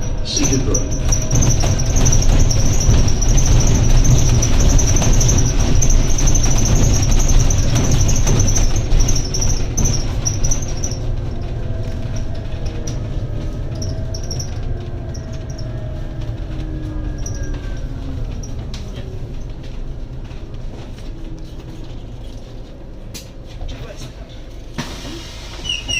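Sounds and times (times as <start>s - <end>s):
bus engine rumble: 0.0s - 25.9s.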